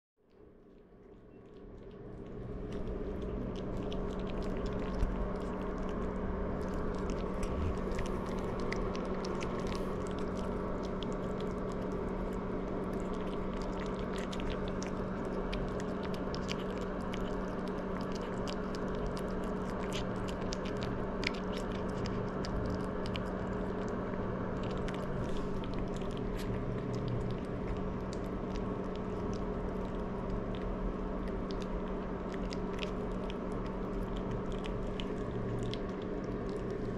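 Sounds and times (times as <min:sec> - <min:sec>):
steady low hum: 0:00.2 - 0:36.9
puppy crunching dry kibble: 0:00.3 - 0:36.9.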